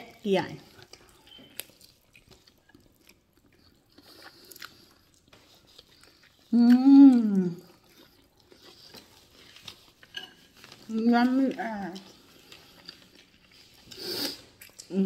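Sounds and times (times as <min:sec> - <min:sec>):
wet chewing and lip-smacking: 0:00.6 - 0:10.9, 0:11.5 - 0:15.0.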